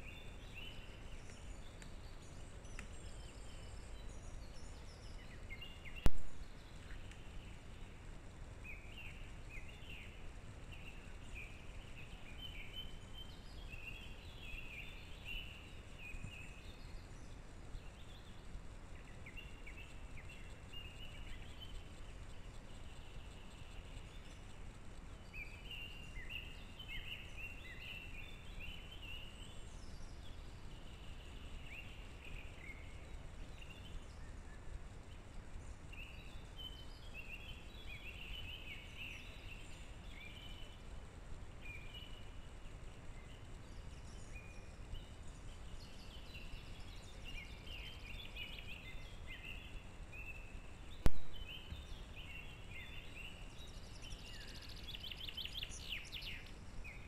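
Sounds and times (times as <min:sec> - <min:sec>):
low background noise: 0:00.0 - 0:57.0
small birds chirping: 0:00.0 - 0:57.0.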